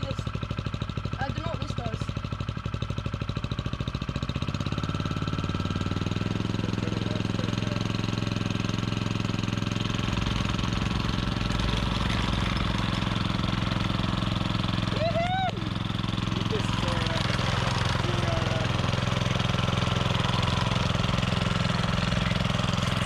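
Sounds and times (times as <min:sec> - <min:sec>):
plate compactor engine pulsing: 0:00.0 - 0:23.0.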